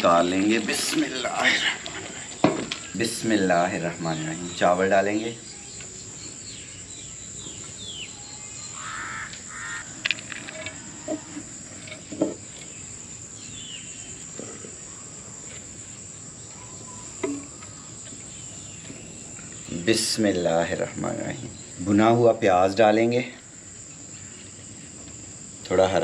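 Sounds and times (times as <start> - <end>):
birds calling: 0.0 - 26.0
crickets chirring: 0.0 - 26.0.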